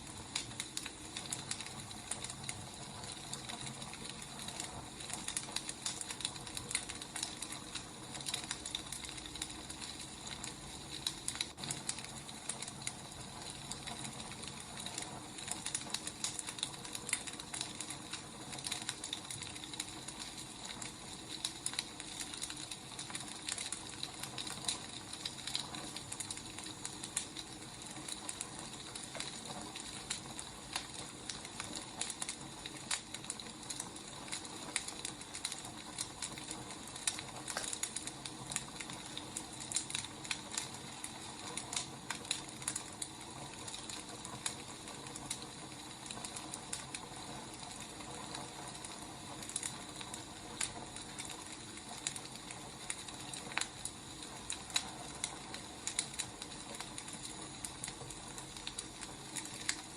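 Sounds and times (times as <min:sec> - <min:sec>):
wood fire hissing and crackling: 0:00.0 - 0:59.9.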